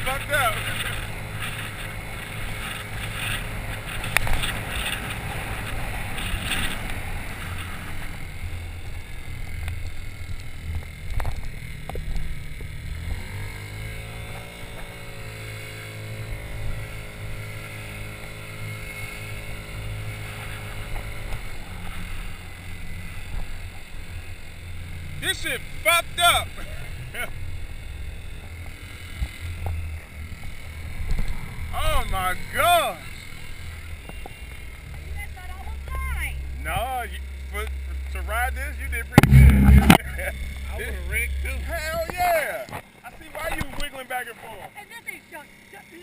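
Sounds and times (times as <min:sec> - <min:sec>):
scooter engine running: 0:00.0 - 0:46.0.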